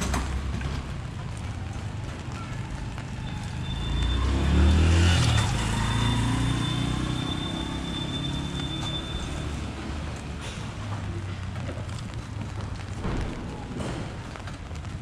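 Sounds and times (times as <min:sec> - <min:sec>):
car passing on wet street: 0:00.0 - 0:15.0.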